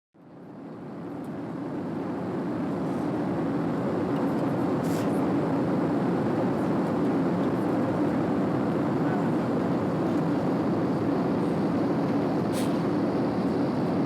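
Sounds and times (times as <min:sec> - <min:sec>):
airliner cabin noise: 0:00.6 - 0:14.0.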